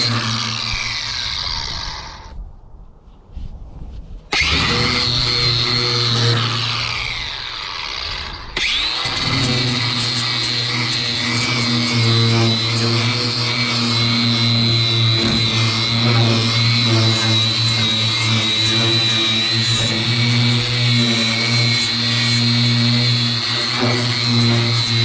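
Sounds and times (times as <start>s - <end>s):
electric sander whining: 0.0s - 2.4s, 4.3s - 25.0s.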